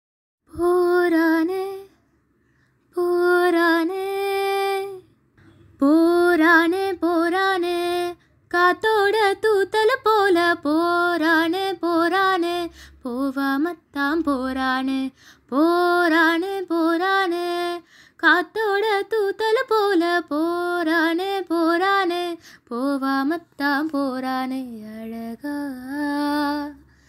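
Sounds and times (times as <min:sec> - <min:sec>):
woman singing unaccompanied: 0:00.5 - 0:02.0, 0:02.9 - 0:05.1, 0:05.8 - 0:27.0.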